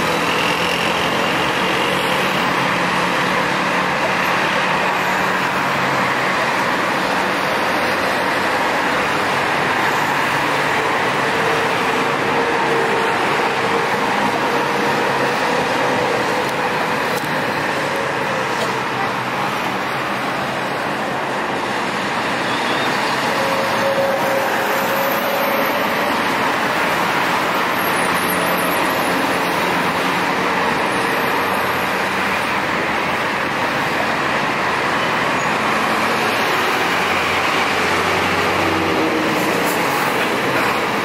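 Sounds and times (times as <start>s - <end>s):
heavy vehicle engine hum: 0.0s - 41.0s
road traffic noise: 0.0s - 41.0s.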